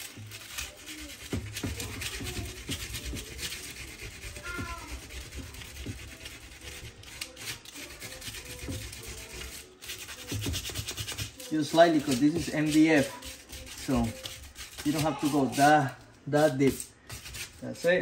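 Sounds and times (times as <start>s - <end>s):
sandpaper rubbing on wood: 0.0s - 18.0s.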